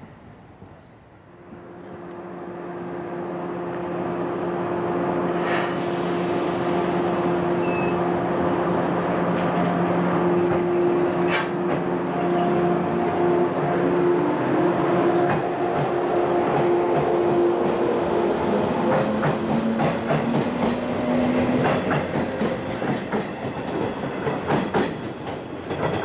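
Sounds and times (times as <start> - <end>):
electric train running past: 0.0 - 26.0.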